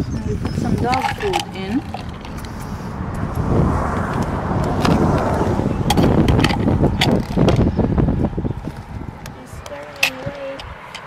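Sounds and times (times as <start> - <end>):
low rumbling noise: 0.0 - 10.9.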